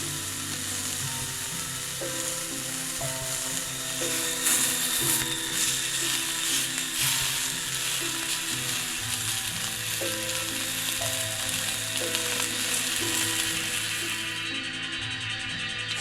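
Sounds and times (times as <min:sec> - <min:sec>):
cicadas buzzing: 0:00.0 - 0:16.0
soft background music: 0:00.0 - 0:16.0.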